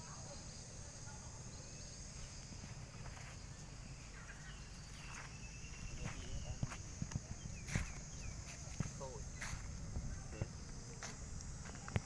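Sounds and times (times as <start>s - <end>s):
faint chirps: 0.0s - 12.0s
high-pitched insect drone: 0.0s - 12.0s.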